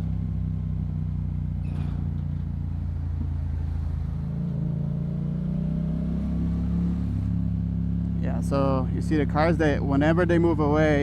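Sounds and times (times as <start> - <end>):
motorcycle engine running: 0.0 - 5.7, 6.8 - 11.0.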